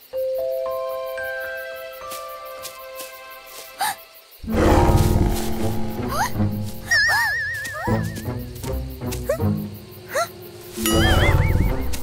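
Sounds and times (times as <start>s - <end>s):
cartoon soundtrack music: 0.8s - 9.7s, 10.8s - 12.0s.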